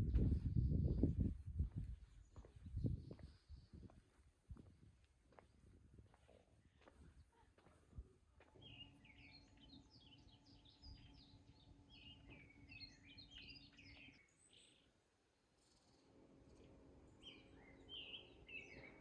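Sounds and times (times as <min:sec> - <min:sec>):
faint low hum: 0:00.0 - 0:19.0
small birds chirping: 0:00.0 - 0:19.0.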